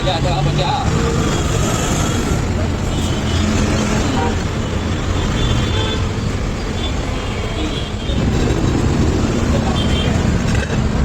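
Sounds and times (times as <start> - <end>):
engine and road traffic noise: 0.0 - 11.0.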